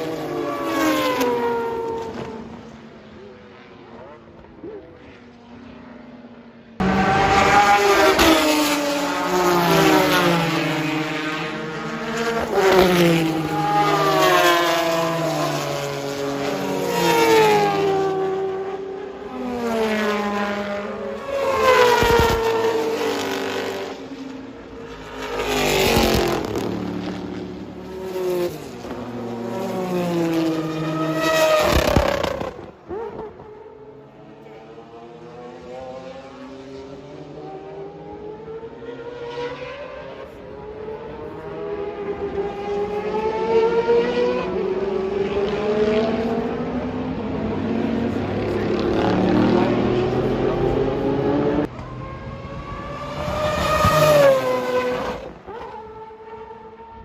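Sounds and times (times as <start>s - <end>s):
race car engine revving: 6.8s - 24.0s, 25.0s - 56.9s.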